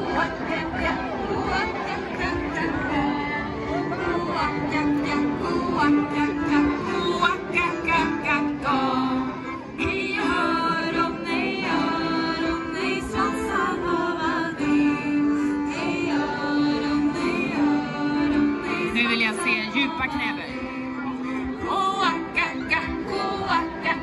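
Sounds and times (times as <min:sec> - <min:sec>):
folk song over loudspeakers: 0:00.0 - 0:24.0.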